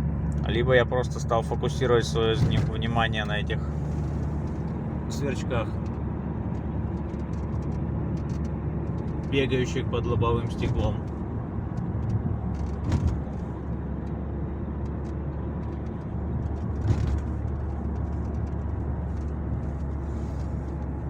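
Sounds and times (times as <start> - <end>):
low road and exhaust drone: 0.0 - 21.0.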